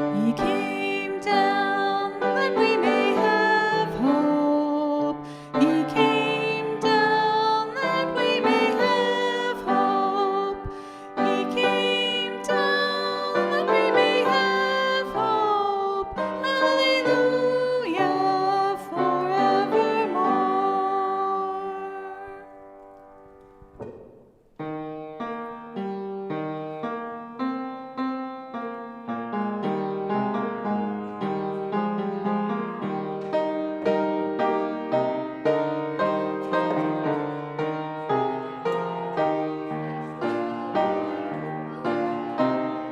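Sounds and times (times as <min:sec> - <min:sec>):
piano chords: 0:00.0 - 0:42.9
slow music of held notes: 0:00.0 - 0:42.9.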